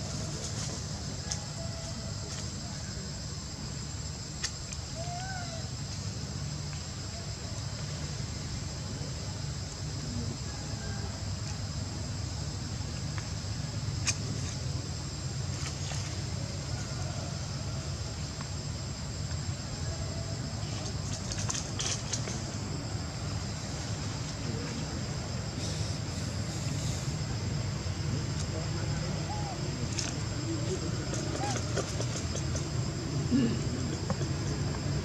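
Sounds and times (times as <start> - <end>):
insects buzzing: 0.0 - 35.0.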